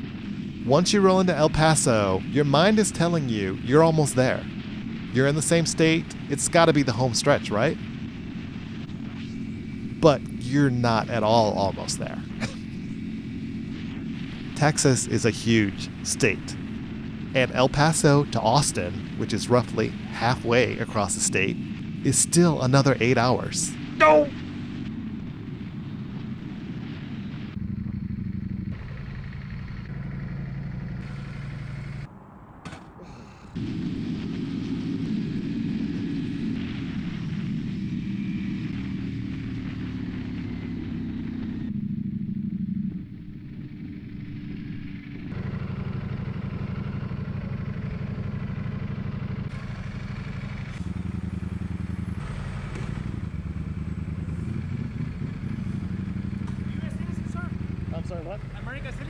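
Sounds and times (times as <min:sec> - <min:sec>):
motorcycle engine revving: 0:00.0 - 0:20.7, 0:23.7 - 0:32.1, 0:34.0 - 0:59.0.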